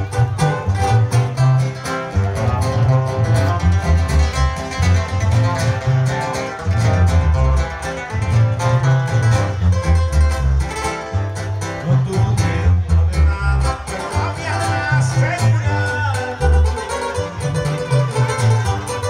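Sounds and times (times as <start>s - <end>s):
heavy rhythmic bass line: 0.0s - 19.0s
live band music: 0.0s - 19.0s.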